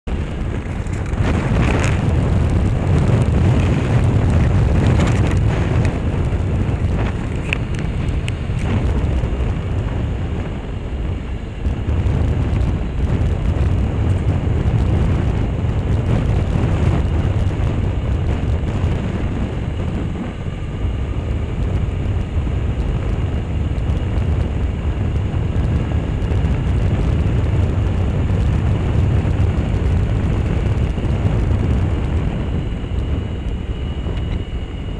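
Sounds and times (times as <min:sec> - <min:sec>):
motorcycle engine and tyre rumble: 0:00.0 - 0:34.9
wind rushing over microphone: 0:00.0 - 0:34.9.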